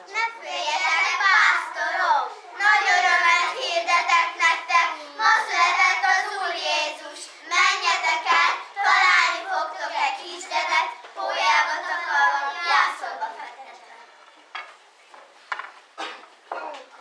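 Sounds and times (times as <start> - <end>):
young children singing: 0.0 - 14.2.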